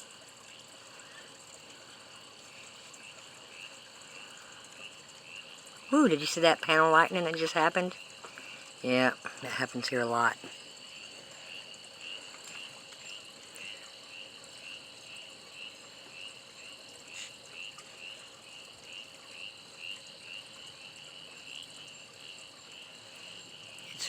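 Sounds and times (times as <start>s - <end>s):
insects and frogs calling: 0.0s - 24.0s.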